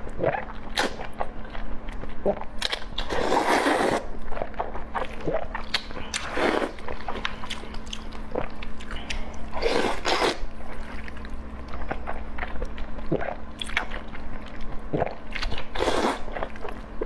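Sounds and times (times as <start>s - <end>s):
person chewing and biting: 0.0s - 17.0s.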